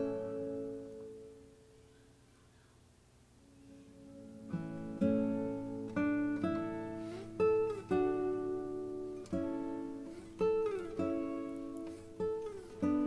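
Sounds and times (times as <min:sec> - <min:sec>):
acoustic guitar strumming chords: 0:00.0 - 0:01.8, 0:03.7 - 0:13.0.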